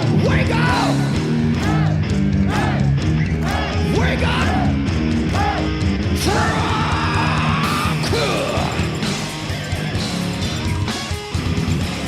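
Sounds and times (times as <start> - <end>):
distorted electric guitar: 0.0 - 12.0
driving drums: 0.0 - 12.0
sustained bass: 0.0 - 12.0.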